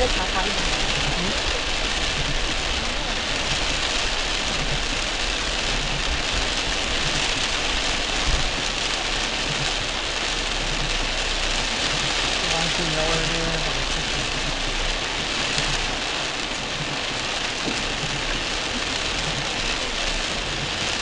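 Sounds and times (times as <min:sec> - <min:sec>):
car driving on wet road: 0:00.0 - 0:21.0
heavy rain on car roof: 0:00.0 - 0:21.0.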